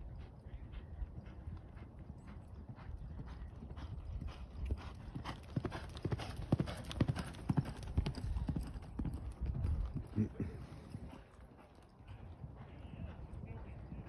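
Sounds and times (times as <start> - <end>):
horse hoofbeats on dirt: 0.0 - 14.0.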